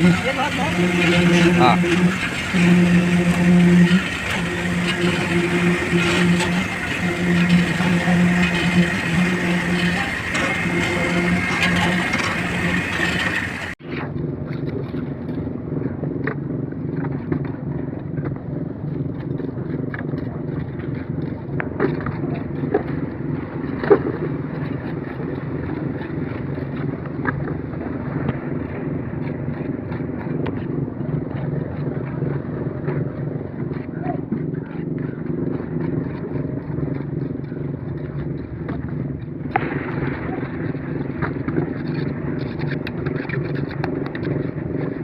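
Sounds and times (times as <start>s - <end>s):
concrete mixer engine running: 0.0s - 13.8s, 19.7s - 45.0s.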